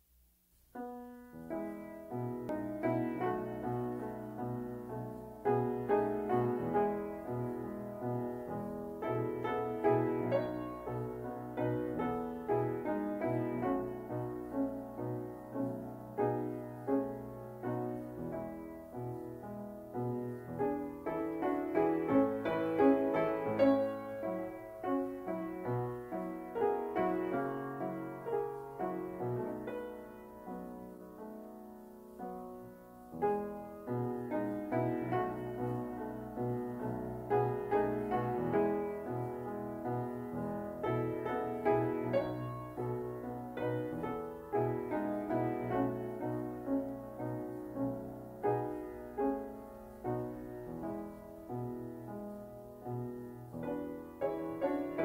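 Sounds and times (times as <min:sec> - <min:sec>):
piano music: 0:00.7 - 0:55.0.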